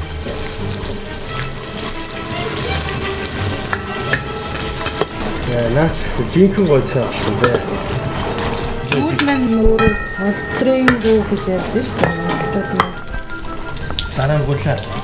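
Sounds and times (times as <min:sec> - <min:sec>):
fat sizzling in a pot: 0:00.0 - 0:15.0
wooden spatula scraping pot: 0:00.2 - 0:14.0.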